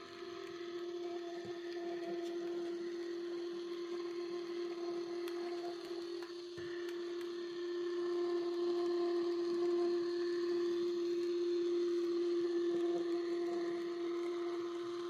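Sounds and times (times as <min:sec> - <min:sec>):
model locomotive drive whine: 0:00.0 - 0:15.0.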